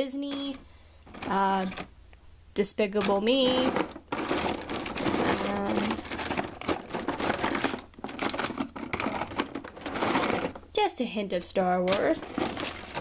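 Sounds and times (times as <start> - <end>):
plastic beads clicking and rustling: 0.3 - 1.9, 2.9 - 10.8, 11.8 - 13.0.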